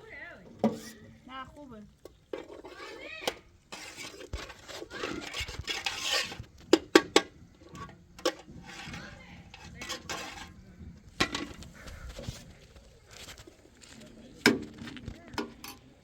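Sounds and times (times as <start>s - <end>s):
stirring against a metal pan: 0.0s - 16.0s.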